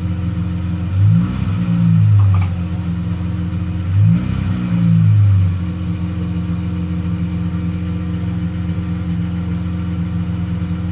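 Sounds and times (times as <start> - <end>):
car engine idling: 0.0 - 1.1, 1.8 - 4.1, 4.8 - 10.9.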